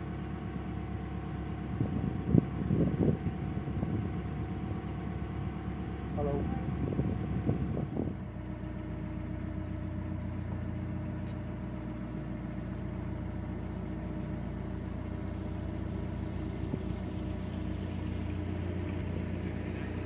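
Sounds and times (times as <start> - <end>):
diesel boat engine droning: 0.0 - 20.0.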